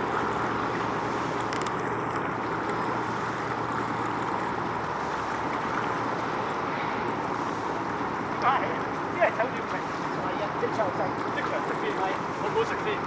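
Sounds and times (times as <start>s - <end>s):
boat engine hum: 0.0s - 13.0s
water rushing: 0.0s - 13.0s
wind: 0.0s - 13.0s.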